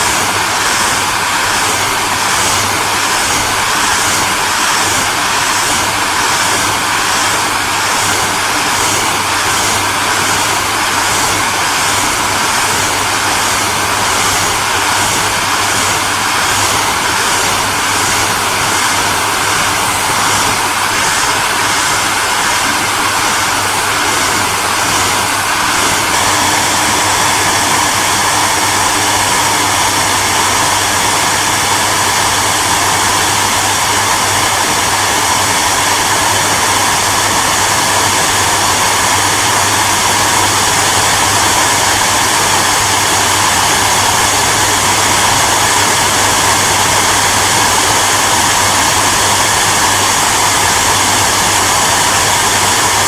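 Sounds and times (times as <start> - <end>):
hairdryer blowing air: 0.0 - 53.0.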